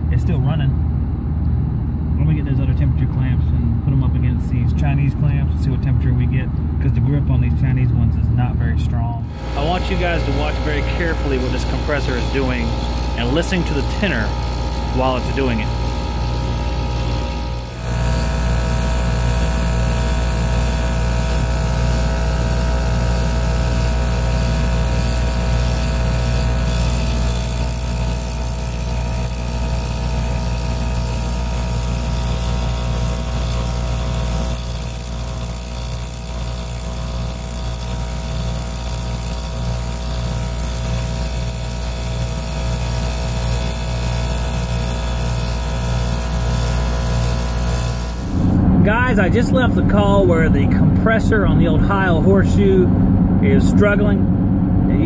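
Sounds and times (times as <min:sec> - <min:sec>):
compressor humming with pulsing: 0:00.0 - 0:55.0.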